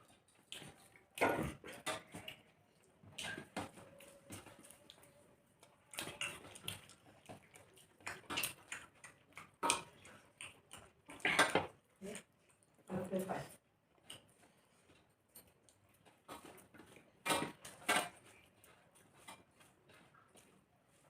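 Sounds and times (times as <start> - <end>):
chewing and mouth noises: 0.0 - 21.0.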